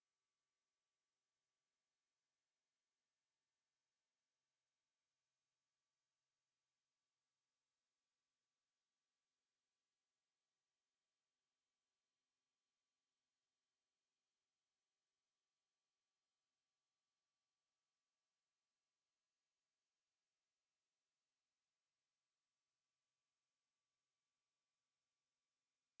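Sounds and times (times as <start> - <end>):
steady high-pitched sine tone: 0.0 - 26.0.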